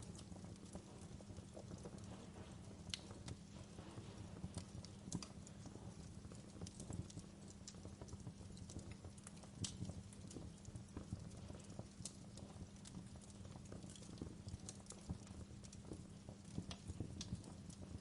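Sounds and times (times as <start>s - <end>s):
low rumble of flames: 0.0s - 18.0s.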